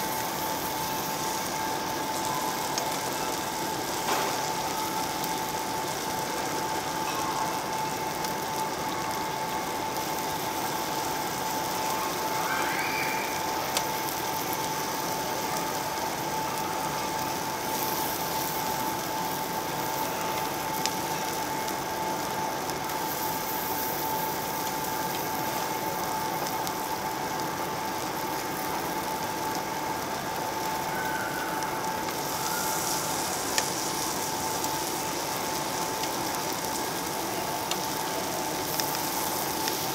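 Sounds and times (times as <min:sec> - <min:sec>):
pork sizzling and crackling on a grill: 0:00.0 - 0:39.9.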